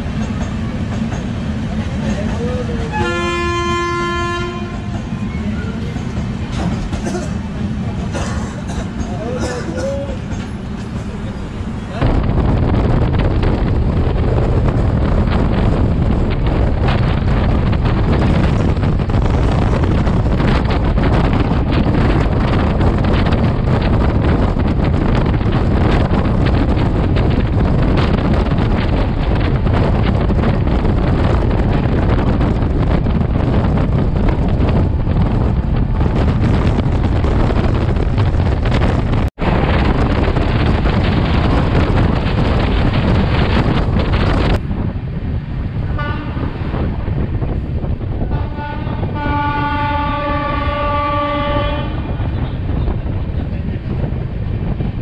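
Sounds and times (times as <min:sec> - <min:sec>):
train rumbling at speed: 0:00.0 - 0:55.0
wind buffeting microphone: 0:00.0 - 0:55.0.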